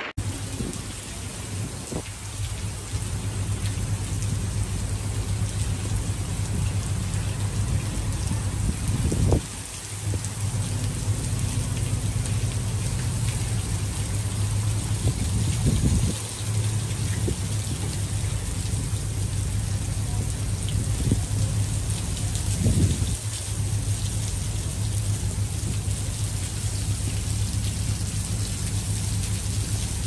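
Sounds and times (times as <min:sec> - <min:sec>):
heavy rain pouring: 0:00.0 - 0:30.0
low thunder rumble: 0:00.2 - 0:30.0.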